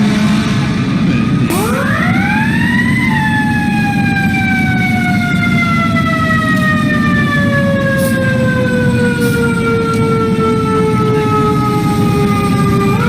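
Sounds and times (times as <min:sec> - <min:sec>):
fire truck siren: 0:00.0 - 0:13.0
steady low rumble: 0:00.0 - 0:13.0.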